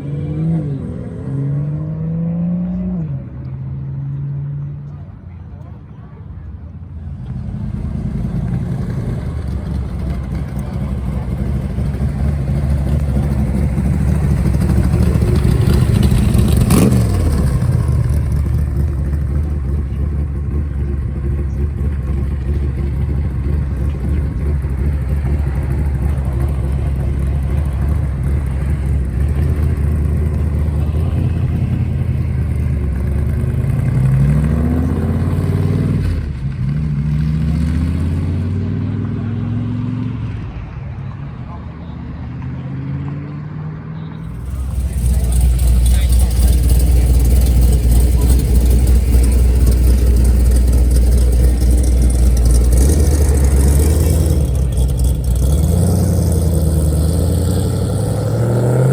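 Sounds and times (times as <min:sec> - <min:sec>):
engine revving: 0:00.0 - 0:03.1, 0:07.2 - 0:40.4, 0:42.2 - 0:58.9
car engine rumbling: 0:00.0 - 0:58.9
vehicle passing by: 0:06.9 - 0:58.9.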